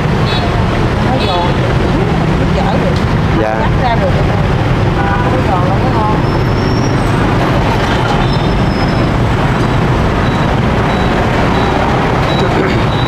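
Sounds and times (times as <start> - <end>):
deep rumble: 0.0 - 13.0.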